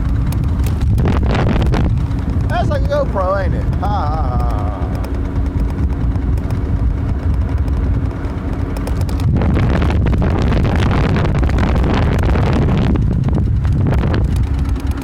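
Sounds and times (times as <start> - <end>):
bicycle ticking and rattling: 0.0 - 15.0
road rumble: 0.0 - 15.0
wind over microphone: 0.0 - 15.0.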